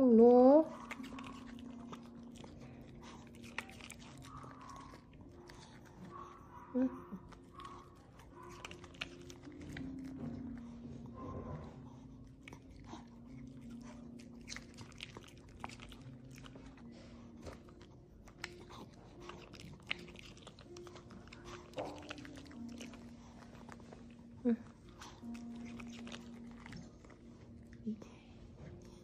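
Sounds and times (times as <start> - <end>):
dog crunching pear: 0.6 - 28.0.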